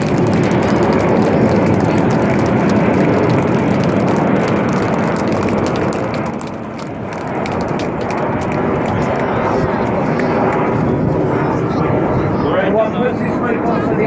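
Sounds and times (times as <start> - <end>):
jets flying past: 0.0 - 14.0.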